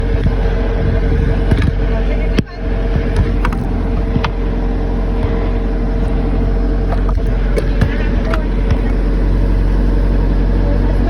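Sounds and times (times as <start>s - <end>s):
diesel engine running: 0.0s - 11.0s
steady whine: 0.0s - 11.0s.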